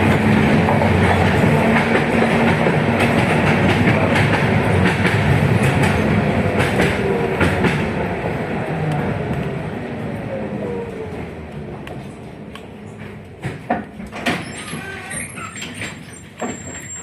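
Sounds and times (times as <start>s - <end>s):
tram rumble: 0.0s - 17.0s
tram wheels clicking over rail joints: 0.0s - 17.0s.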